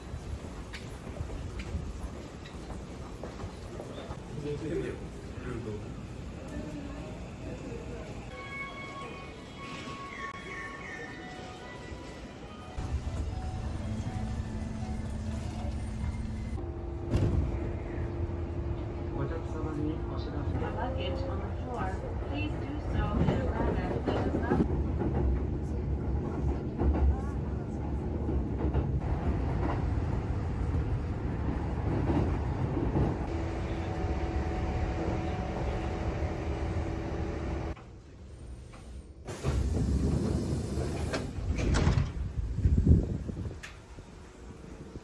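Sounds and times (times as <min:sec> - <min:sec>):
train rumbling on track: 0:00.0 - 0:45.0.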